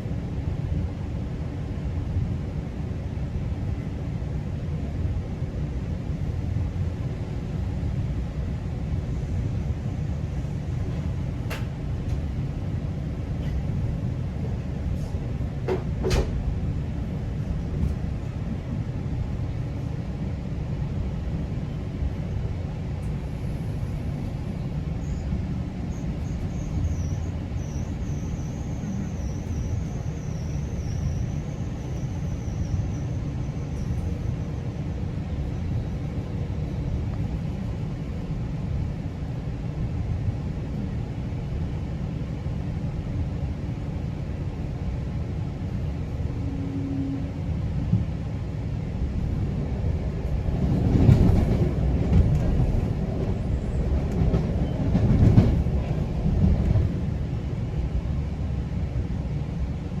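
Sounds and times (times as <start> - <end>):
train rumbling on track: 0.0 - 60.0.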